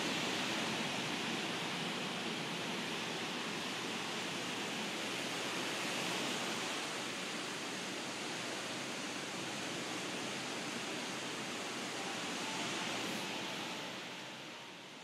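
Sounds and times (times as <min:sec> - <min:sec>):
hiss-like rushing noise: 0:00.0 - 0:15.0.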